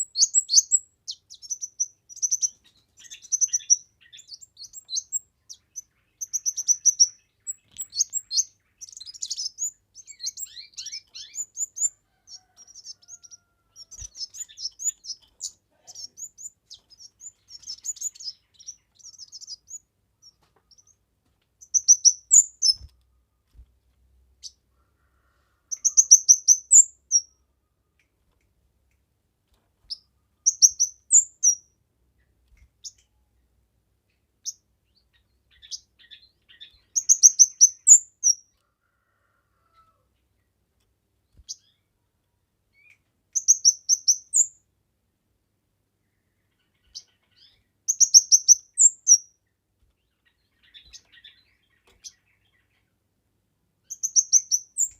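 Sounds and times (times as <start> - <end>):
songbird twittering and trilling: 0.0 - 21.0, 21.6 - 23.6, 25.7 - 27.4, 29.8 - 39.3, 41.3 - 41.9, 42.7 - 44.7, 46.1 - 53.0, 53.8 - 54.9.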